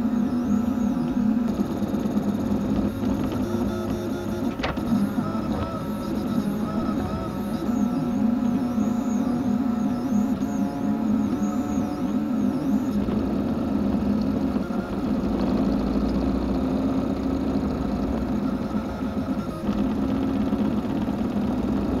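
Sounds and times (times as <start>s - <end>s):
cooling fans humming: 0.0s - 22.0s
stepper motors whirring: 0.0s - 22.0s.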